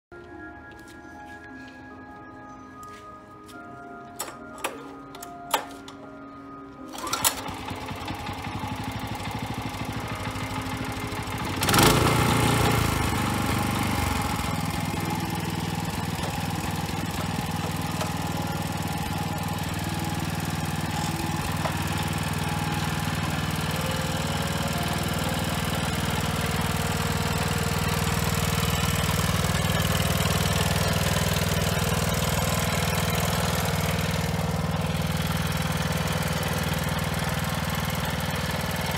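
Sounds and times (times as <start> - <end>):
tiller engine running: 4.1 - 38.9.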